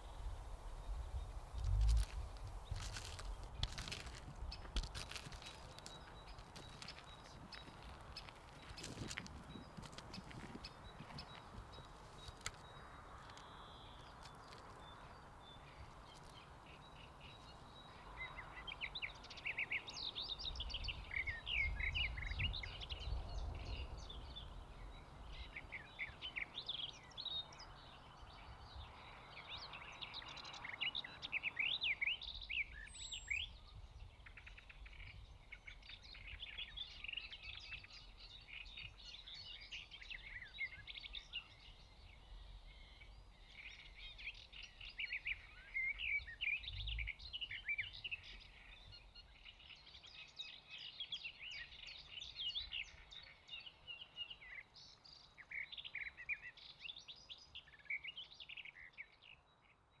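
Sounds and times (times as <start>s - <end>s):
birds chirping and singing: 0.0s - 59.8s.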